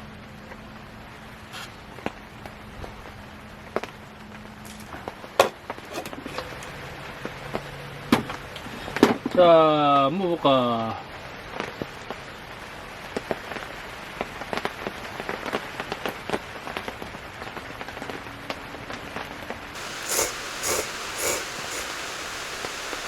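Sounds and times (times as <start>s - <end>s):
rain pattering on tent fabric: 0.0s - 7.7s, 8.3s - 23.0s.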